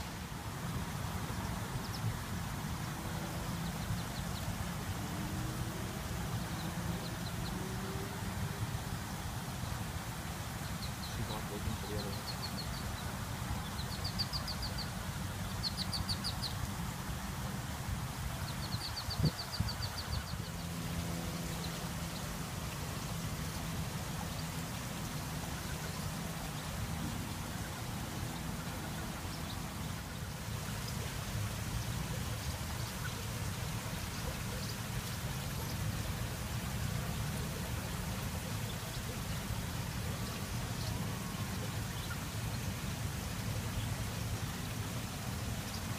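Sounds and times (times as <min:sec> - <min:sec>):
water trickling between rocks: 0:08.2 - 0:45.9.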